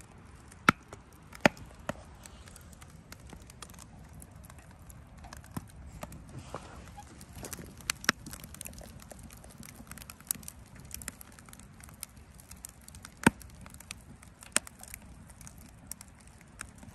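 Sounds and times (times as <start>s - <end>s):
fire popping: 0.0s - 16.9s
wood fire crackling: 0.0s - 16.9s.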